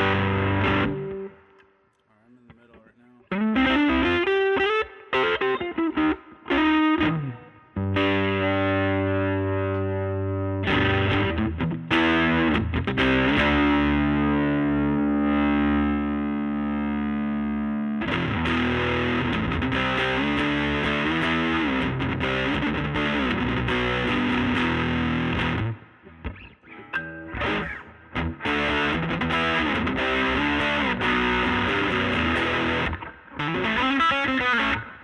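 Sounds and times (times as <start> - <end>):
overdriven electric guitar chords: 0.0 - 1.8, 2.6 - 35.0.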